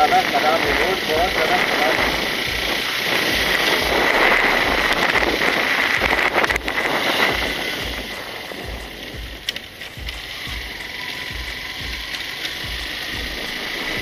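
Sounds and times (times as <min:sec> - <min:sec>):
bus passing close: 0:00.0 - 0:14.0
wind rushing over microphone: 0:00.0 - 0:14.0.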